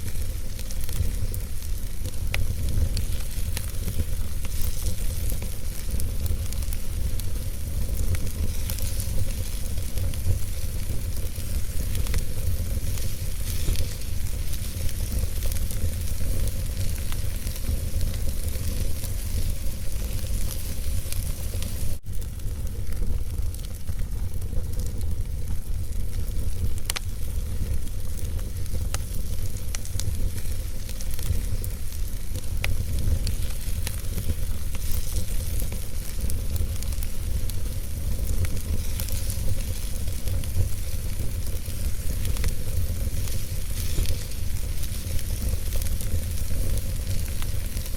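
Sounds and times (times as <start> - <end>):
fire crackles and pops: 0.0 - 47.9
wood fire burning: 0.0 - 47.9.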